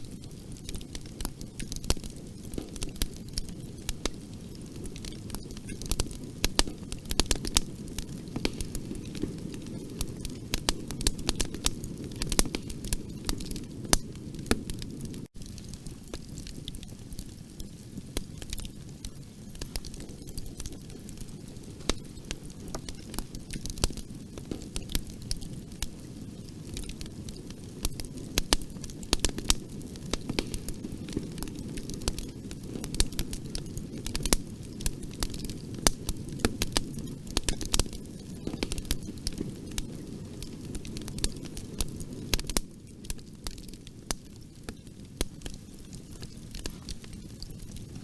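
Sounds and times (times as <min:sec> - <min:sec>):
fire crackling and popping: 0:00.0 - 0:48.0
low rumble of flames: 0:00.0 - 0:48.0.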